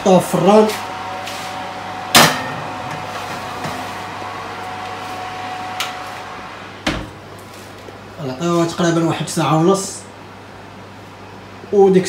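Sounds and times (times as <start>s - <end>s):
fan oven humming: 0.0s - 12.0s.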